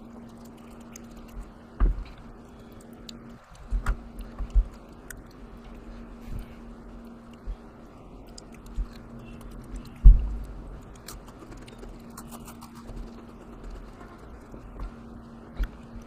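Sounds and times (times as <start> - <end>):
person chewing crunchy cookies: 0.0 - 16.0.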